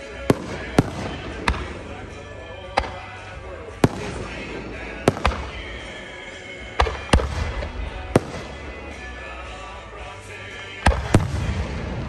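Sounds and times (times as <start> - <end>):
fireworks bursting with bangs: 0.0 - 9.7, 10.8 - 12.0
music: 0.0 - 12.0.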